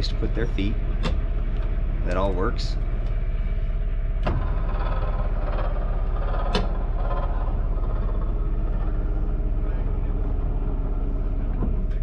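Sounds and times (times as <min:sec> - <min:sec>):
generator droning: 0:00.0 - 0:12.0.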